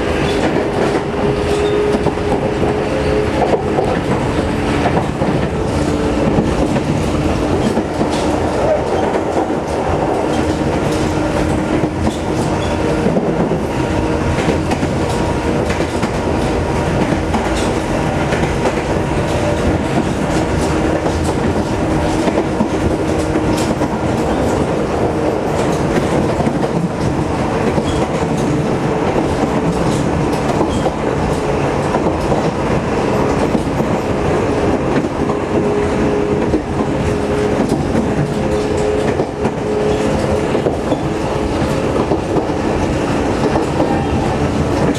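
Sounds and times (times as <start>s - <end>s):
steady train hum: 0.0s - 44.9s
train wheels rumbling on track: 0.0s - 44.9s
wheels clicking over rail joints: 0.2s - 44.9s.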